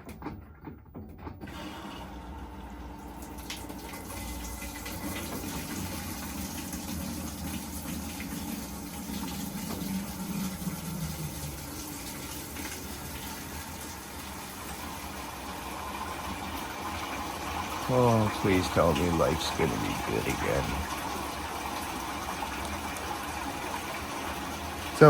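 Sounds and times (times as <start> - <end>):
water gushing into washing machine: 1.4 - 25.0.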